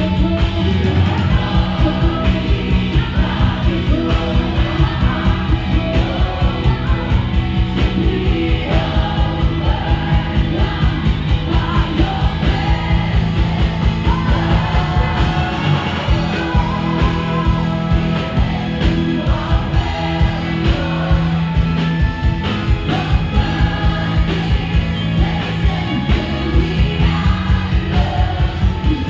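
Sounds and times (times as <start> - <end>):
fast drum beat: 0.0 - 29.0
people singing over pa: 0.0 - 29.0
worship band playing upbeat song: 0.0 - 29.0.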